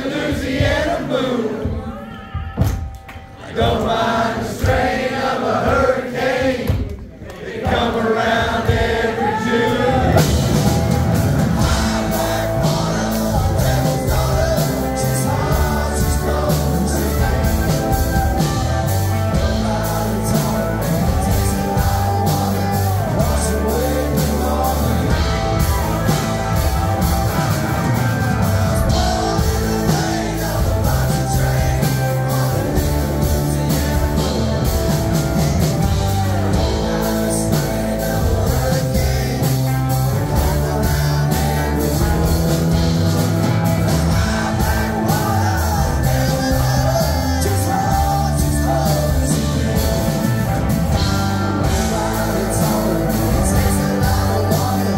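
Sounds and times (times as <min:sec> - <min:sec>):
person singing: 0:07.7 - 0:43.0, 0:43.7 - 0:54.9
live rock band playing: 0:08.2 - 0:54.9.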